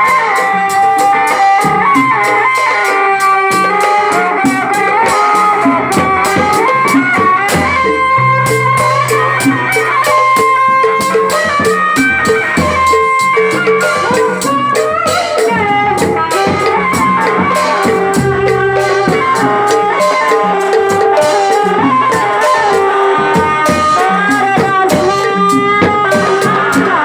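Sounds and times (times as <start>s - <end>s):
instrumental music with drum beat: 0.0s - 27.0s.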